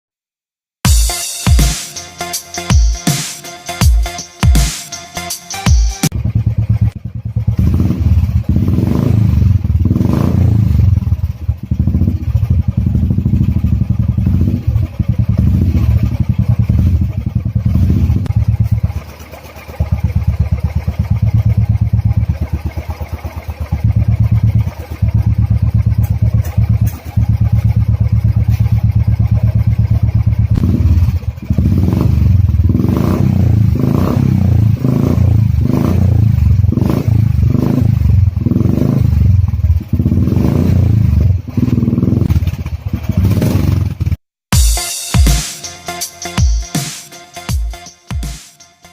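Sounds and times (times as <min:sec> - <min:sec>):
motorcycle engine idling and revving: 0:00.9 - 0:46.8.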